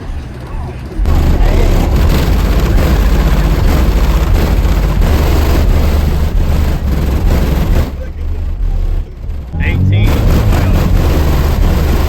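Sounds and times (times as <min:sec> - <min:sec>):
distorted subwoofer bass: 0:00.0 - 0:12.0.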